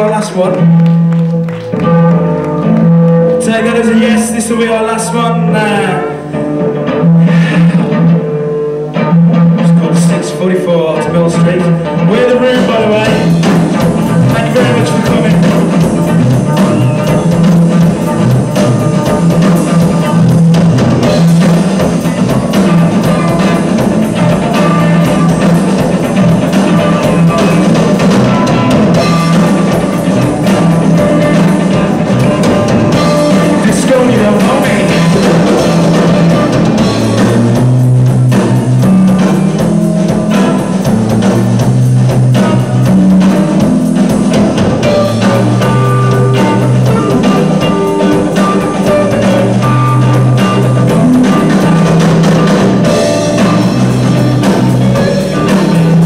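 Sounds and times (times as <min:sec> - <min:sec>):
drum kit: 0:00.0 - 0:56.0
electric guitar strummed: 0:00.0 - 0:56.0.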